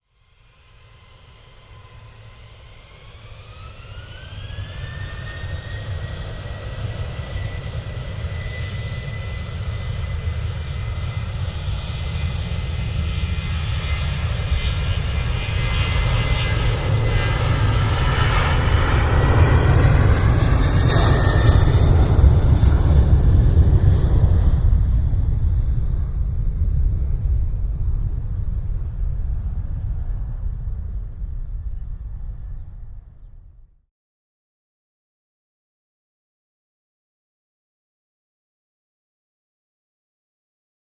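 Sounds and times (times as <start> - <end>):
jet engine whine: 0.0 - 33.8
jet engine roar: 0.2 - 33.6.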